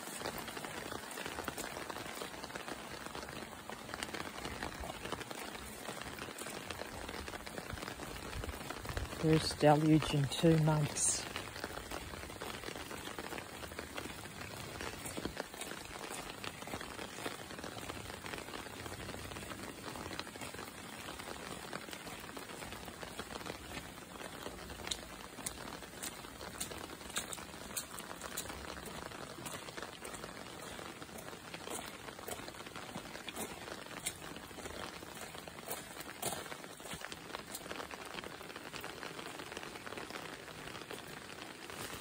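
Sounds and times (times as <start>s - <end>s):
heavy rain: 0.0s - 42.0s
raindrops ticking close by: 0.0s - 42.0s.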